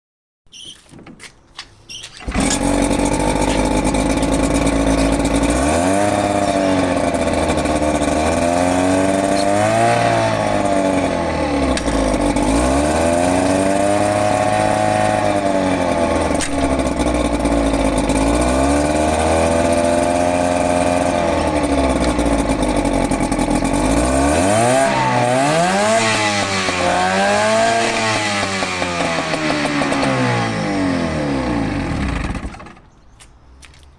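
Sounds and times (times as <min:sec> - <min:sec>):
outboard motor revving: 0:02.2 - 0:32.8.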